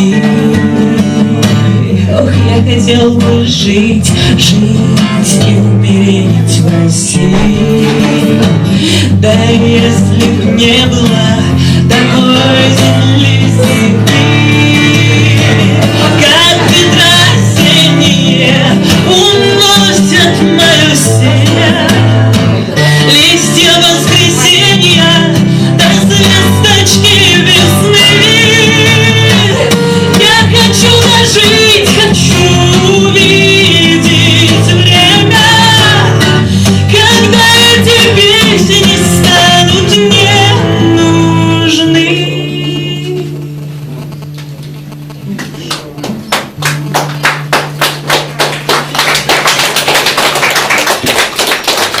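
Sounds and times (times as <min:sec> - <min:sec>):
woman singing: 0:00.0 - 0:43.5
strummed guitar: 0:00.0 - 0:52.0.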